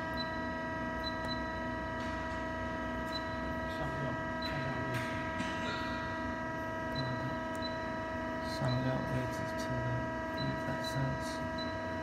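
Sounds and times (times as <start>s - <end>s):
machine humming with whining tones: 0.0s - 12.0s.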